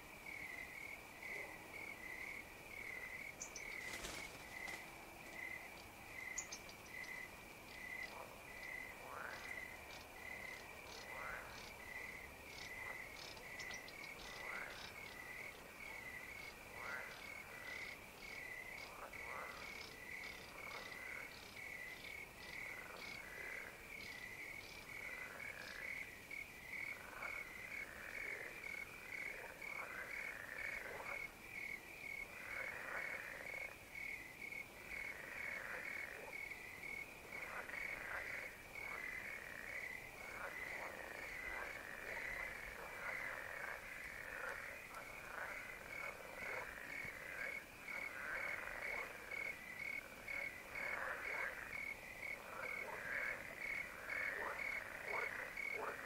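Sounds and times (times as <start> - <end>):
cricket chirping: 0.0 - 56.0
frog calls: 0.3 - 56.0.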